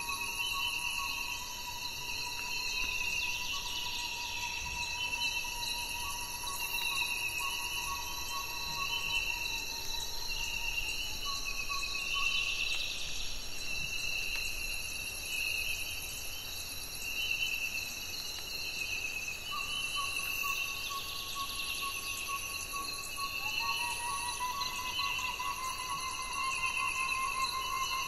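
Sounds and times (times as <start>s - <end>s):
high-pitched insects trilling: 0.0s - 28.0s.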